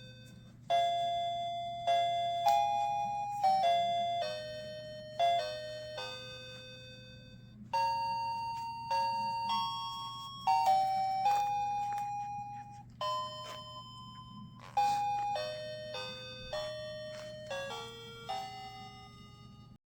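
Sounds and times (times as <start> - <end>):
chime melody: 0.0 - 19.8
faint low hum: 0.0 - 19.8.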